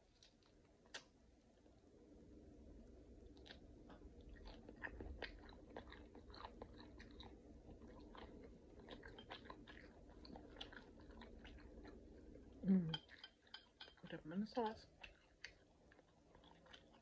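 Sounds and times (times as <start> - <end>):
faint wet chewing: 0.0 - 1.9, 2.8 - 17.0.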